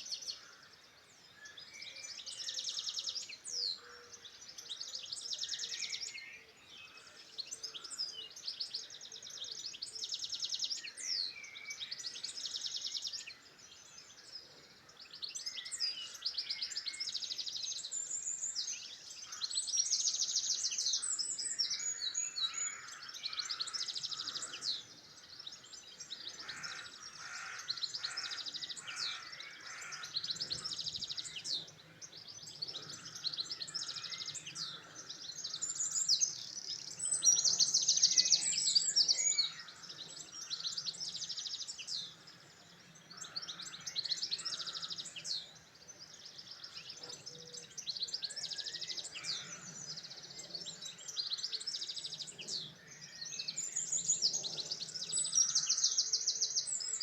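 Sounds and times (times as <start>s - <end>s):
songbirds trilling: 0.0s - 57.0s.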